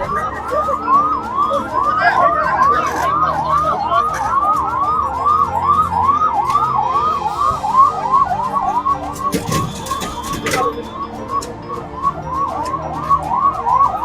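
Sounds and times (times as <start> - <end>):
siren yelping: 0.0 - 14.0.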